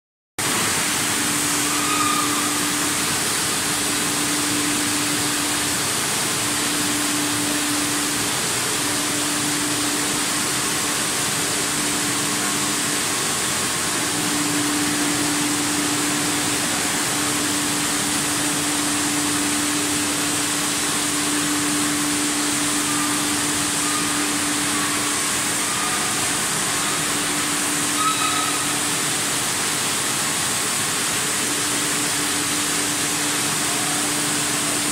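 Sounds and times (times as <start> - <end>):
bottling line conveyors and motors: 0.4 - 34.9
low machine hum: 0.4 - 34.9.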